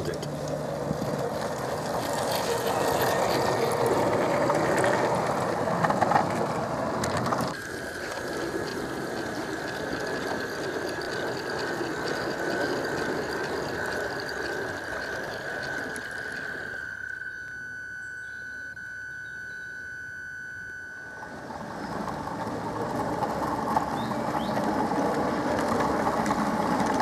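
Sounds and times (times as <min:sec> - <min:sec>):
wheels clattering on rail: 0:00.0 - 0:16.8, 0:21.2 - 0:27.0
model train motor whirring: 0:00.0 - 0:17.5, 0:21.2 - 0:27.0
steady high whine: 0:00.0 - 0:27.0.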